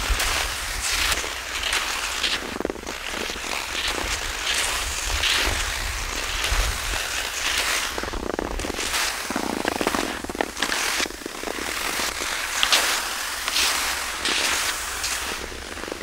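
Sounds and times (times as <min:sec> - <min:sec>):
skis scraping over crusted snow: 0:00.0 - 0:16.0.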